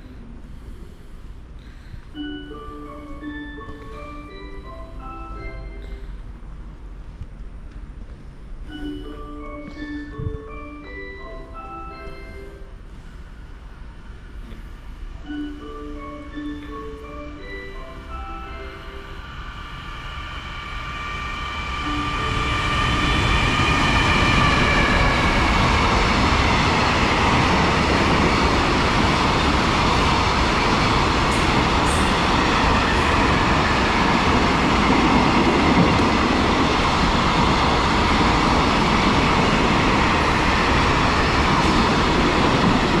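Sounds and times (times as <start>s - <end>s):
high whine of approaching train: 0.0s - 43.0s
rumble of wheels on rail: 3.0s - 8.8s, 12.6s - 43.0s.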